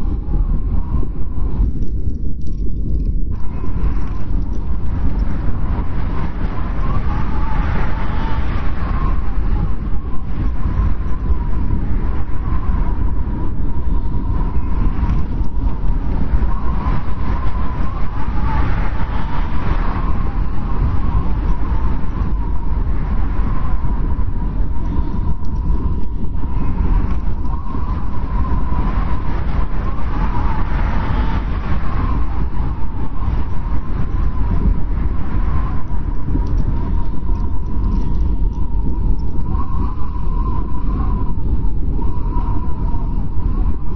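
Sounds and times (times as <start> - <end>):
snowstorm wind rushing: 0.0 - 43.9
wind whistling: 0.0 - 43.9.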